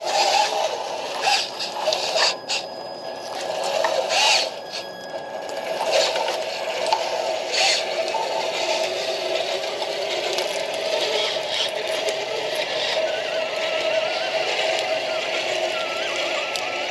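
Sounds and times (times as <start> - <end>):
model bulldozer motor whine: 0.0 - 16.9.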